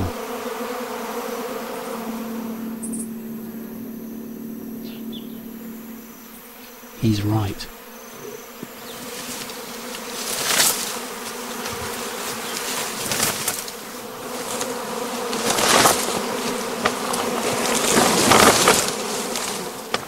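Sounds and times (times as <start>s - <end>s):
insects buzzing drone: 0.0s - 20.0s.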